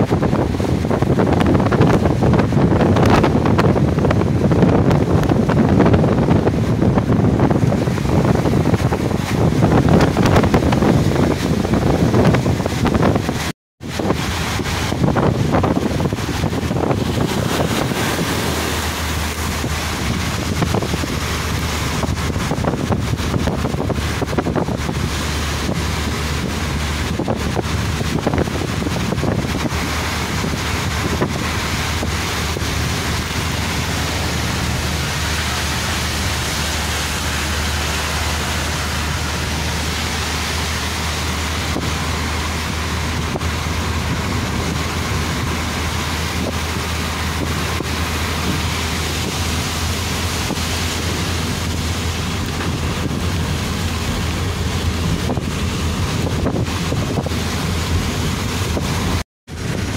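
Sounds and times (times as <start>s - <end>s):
car road noise on highway: 0.0s - 59.9s
wind buffeting microphone: 0.0s - 59.9s.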